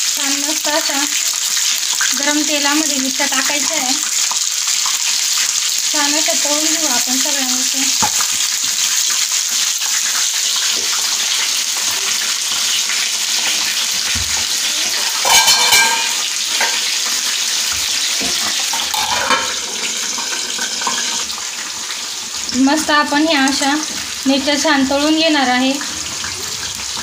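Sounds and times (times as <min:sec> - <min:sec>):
chillies deep-frying in hot oil: 0:00.0 - 0:27.0.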